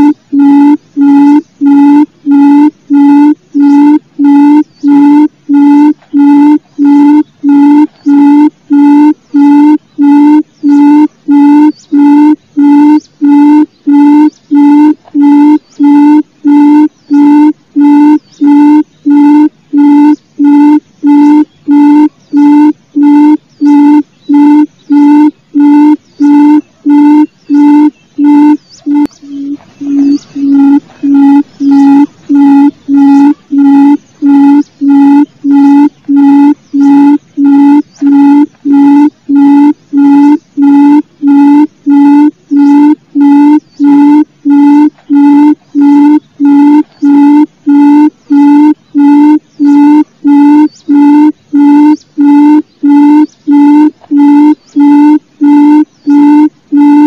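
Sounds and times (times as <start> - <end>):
bird low hooting calls: 0.0 - 57.0.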